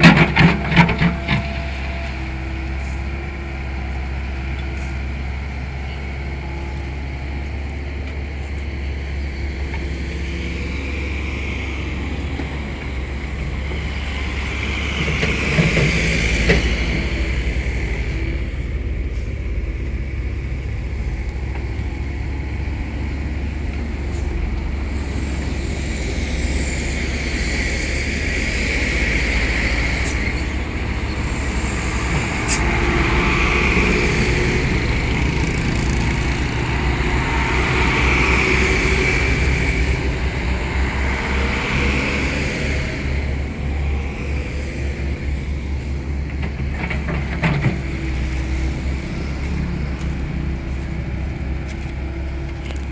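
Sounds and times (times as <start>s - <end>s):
heavy diesel machinery rumbling: 0.0s - 52.9s.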